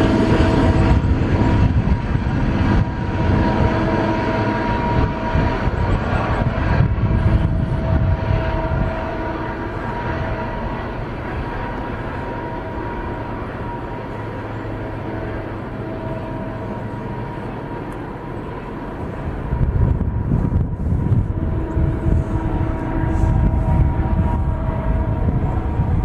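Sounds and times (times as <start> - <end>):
hum of steady tones: 0.0 - 26.0
locomotive engine drone: 0.0 - 26.0.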